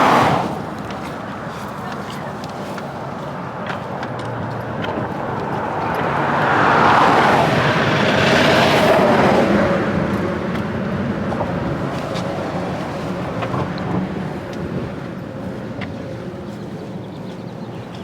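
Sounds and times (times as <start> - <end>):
vehicle passing: 0.0 - 18.0.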